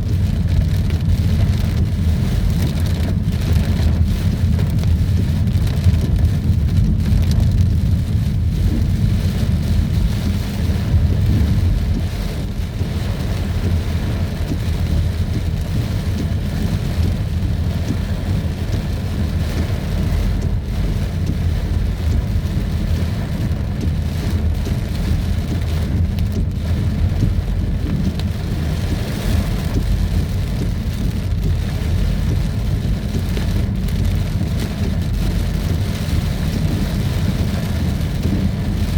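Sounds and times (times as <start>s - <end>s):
heavy rain downpour: 0.0s - 38.9s
low rumble: 0.0s - 38.9s.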